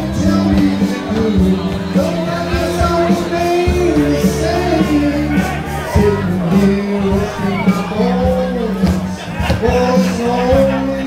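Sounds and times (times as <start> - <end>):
amplified backing music: 0.0 - 11.0
man singing blues: 0.0 - 11.0.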